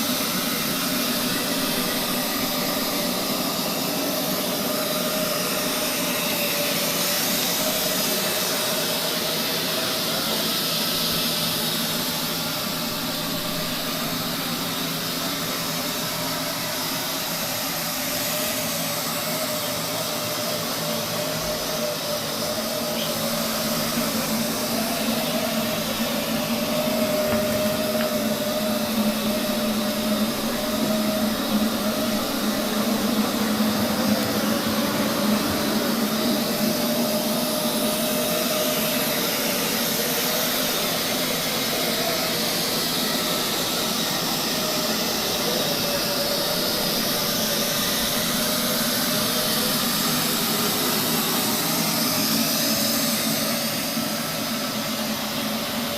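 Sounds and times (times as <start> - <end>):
robot vacuum cleaner running: 0.0 - 55.9.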